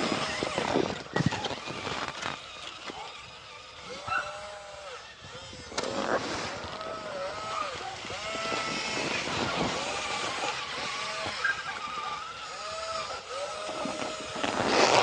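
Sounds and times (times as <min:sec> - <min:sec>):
toy truck electric motor whining: 0:00.0 - 0:15.0.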